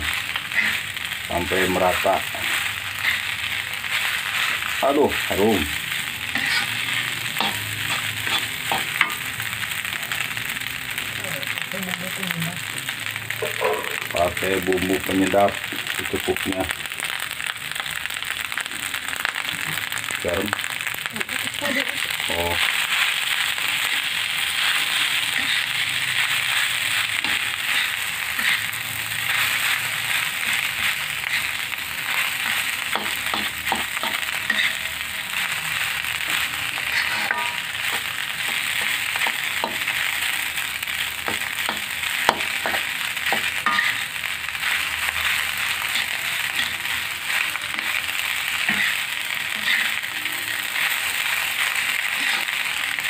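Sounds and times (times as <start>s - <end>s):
spatula scraping wok: 0.0s - 11.2s, 21.5s - 53.0s
fried rice sizzling in a wok: 0.0s - 53.0s.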